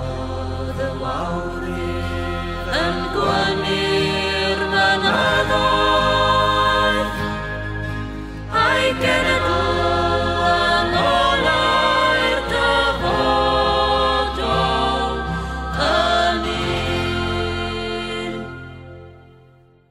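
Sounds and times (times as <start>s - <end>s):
voices singing over low notes: 0.0s - 19.6s.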